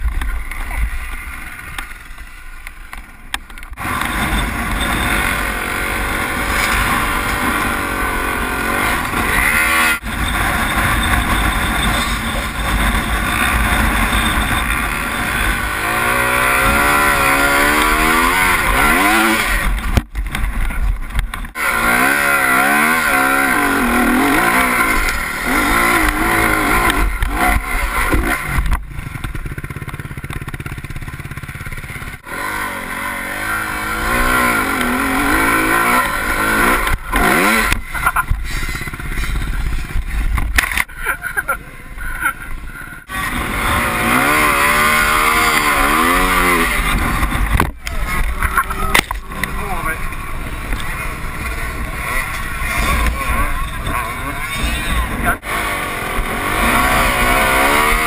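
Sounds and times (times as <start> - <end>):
dirt bike engine revving: 3.7 - 58.0.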